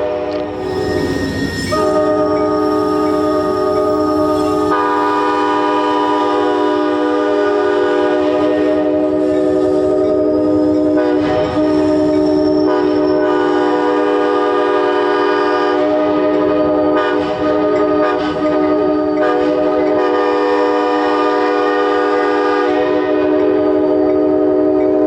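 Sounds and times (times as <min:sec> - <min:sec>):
locomotive horn chord: 0:00.0 - 0:25.0.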